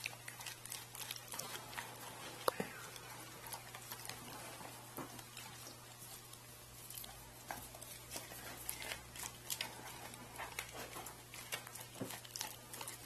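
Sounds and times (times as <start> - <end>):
dog chewing frozen meat: 0.0 - 13.0.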